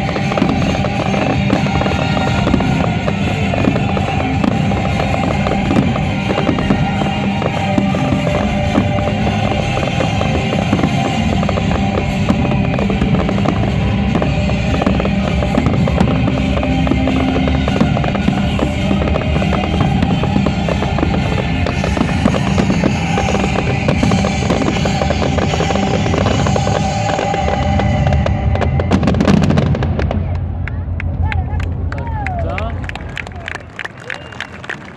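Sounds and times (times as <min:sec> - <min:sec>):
music: 0:00.0 - 0:31.9
fireworks popping and crackling: 0:00.0 - 0:34.9.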